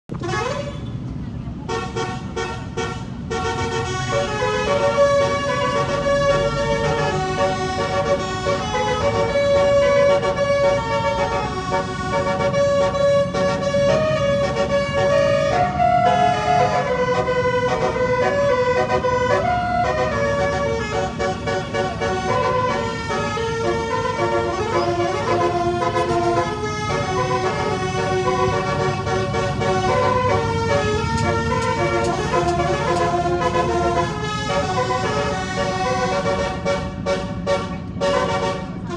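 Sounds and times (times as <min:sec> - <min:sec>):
vehicle engine running low: 0:00.1 - 0:38.9
musical horn playing a tune: 0:01.7 - 0:38.9.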